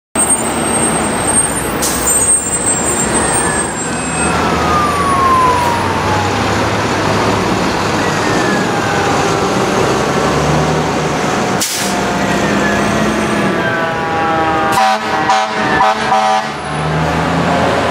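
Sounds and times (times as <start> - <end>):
city traffic noise: 0.2 - 17.9
fire engine siren wailing: 0.2 - 17.9.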